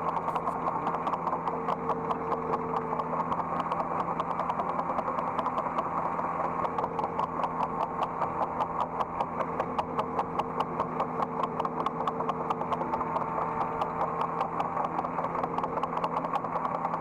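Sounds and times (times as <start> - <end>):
excavator diesel engine running: 0.0 - 17.0
rapid even ticking: 0.0 - 17.0.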